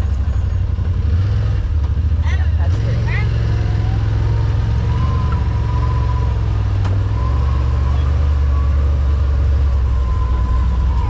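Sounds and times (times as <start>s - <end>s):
vehicle engine droning with whine: 0.0s - 11.0s.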